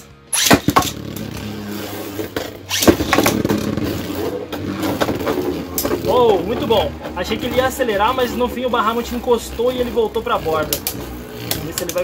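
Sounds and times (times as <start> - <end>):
spinning tops whirring: 0.0 - 12.0.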